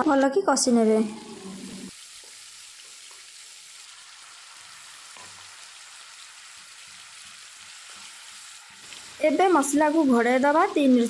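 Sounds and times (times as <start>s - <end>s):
paste sizzling in oil: 1.1s - 11.0s.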